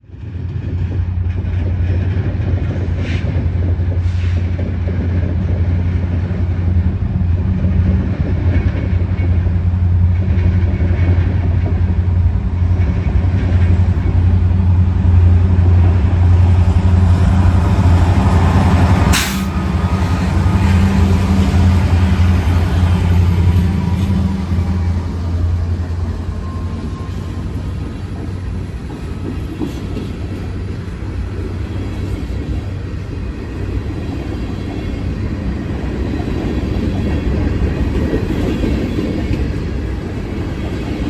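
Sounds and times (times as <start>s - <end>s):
diesel train engine drone: 0.0s - 41.0s.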